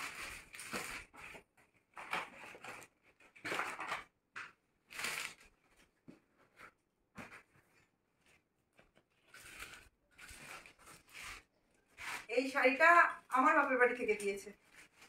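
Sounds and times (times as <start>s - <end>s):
plastic packaging crinkling: 0.0s - 6.0s, 8.3s - 15.0s.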